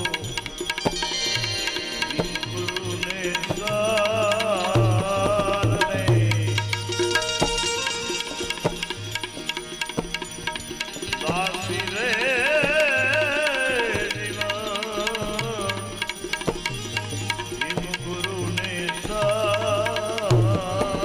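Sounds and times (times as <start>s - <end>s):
tabla rhythm: 0.0s - 21.0s
wavering ornamented melody: 0.0s - 21.0s.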